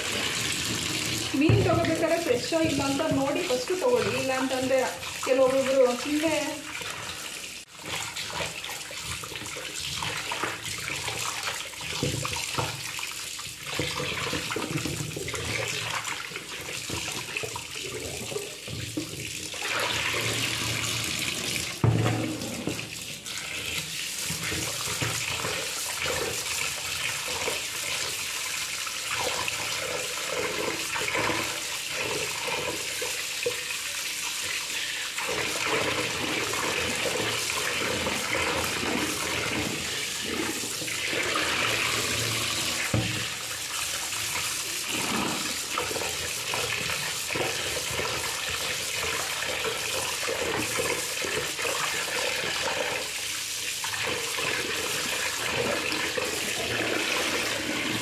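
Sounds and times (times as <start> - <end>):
tap water running into bowl: 0.0 - 58.0
water splashing from rinsing: 0.0 - 58.0.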